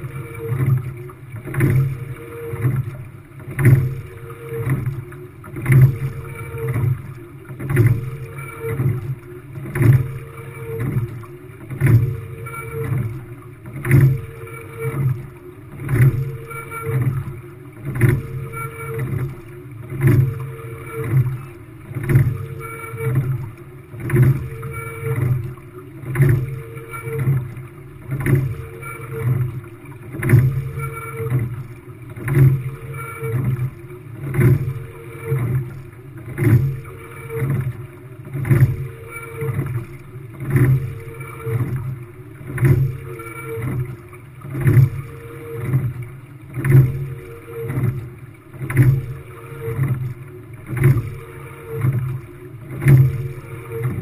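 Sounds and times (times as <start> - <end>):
water rushing along hull: 0.0 - 54.0.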